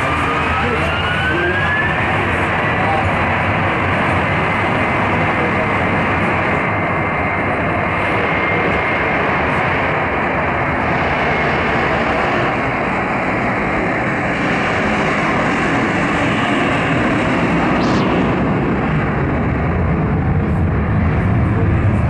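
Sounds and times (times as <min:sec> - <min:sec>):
faint high engine whine: 0:00.0 - 0:22.0
jet engines roaring: 0:00.0 - 0:22.0.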